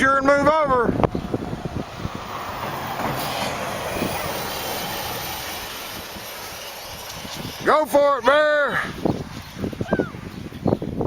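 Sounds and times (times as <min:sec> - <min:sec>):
sled scraping over snow: 0:01.2 - 0:11.0.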